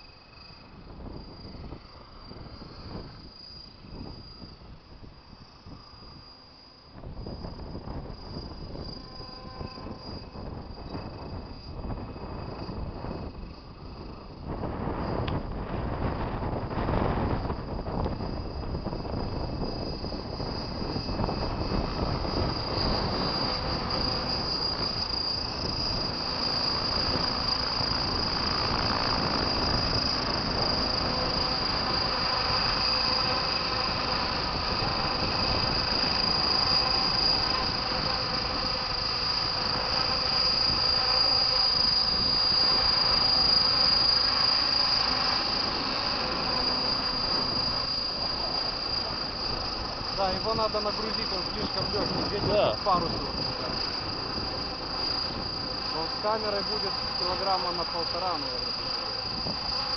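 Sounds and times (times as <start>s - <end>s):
helicopter high whine: 0.0s - 59.9s
rotors humming: 5.1s - 59.9s.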